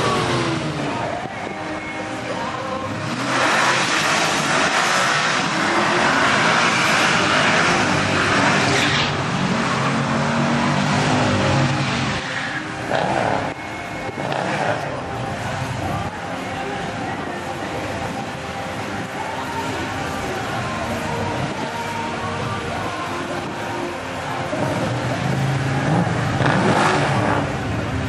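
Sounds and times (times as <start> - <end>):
car engine revving: 0.0 - 1.3, 2.3 - 16.2, 18.0 - 28.0.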